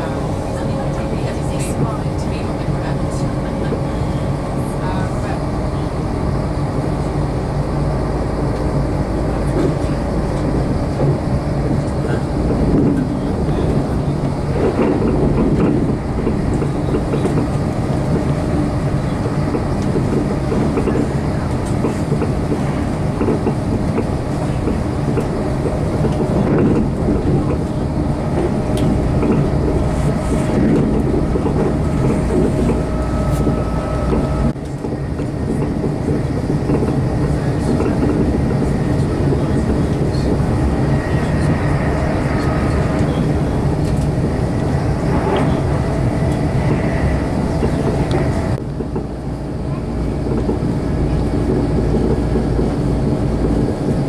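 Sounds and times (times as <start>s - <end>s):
rail clatter: 0.0s - 54.0s
train low rumble: 0.0s - 54.0s.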